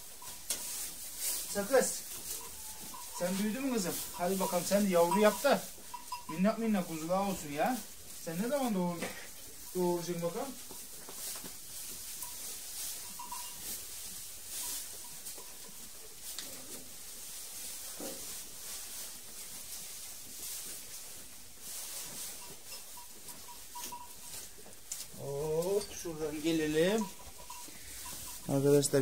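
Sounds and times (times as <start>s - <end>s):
sheep chewing dry straw: 0.0s - 29.0s.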